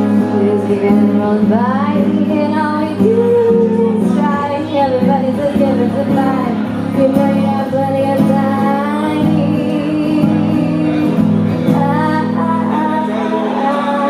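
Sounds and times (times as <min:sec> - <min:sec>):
acoustic guitar strumming: 0:00.0 - 0:14.0
woman singing: 0:00.0 - 0:14.0.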